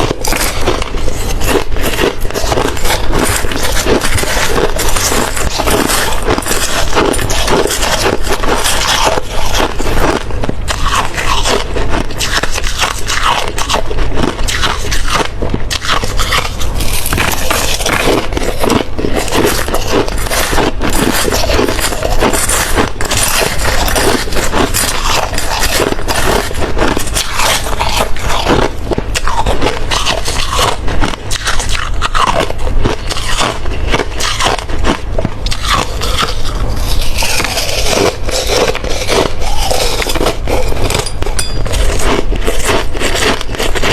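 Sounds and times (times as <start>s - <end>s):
ice being chewed and crunched: 0.0s - 43.9s.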